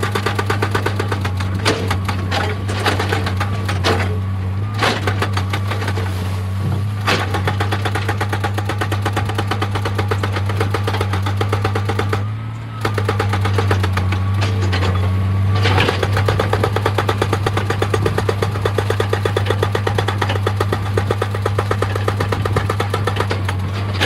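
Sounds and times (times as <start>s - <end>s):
hydraulic breaker hammering stone: 0.0s - 6.1s, 6.9s - 24.0s
diesel engine running under load: 0.0s - 24.0s.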